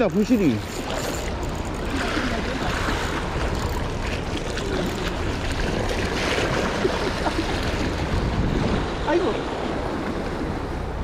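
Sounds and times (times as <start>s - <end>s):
waves splashing over rocks: 0.0s - 11.0s
wind rumbling on microphone: 0.8s - 11.0s.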